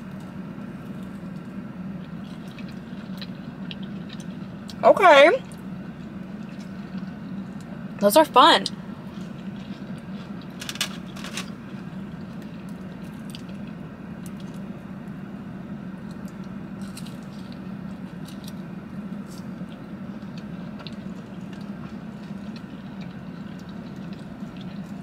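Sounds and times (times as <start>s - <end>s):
steady low hum: 0.0s - 25.0s
wet biting and chewing: 0.2s - 4.8s, 5.5s - 7.7s, 8.9s - 14.7s, 16.0s - 25.0s.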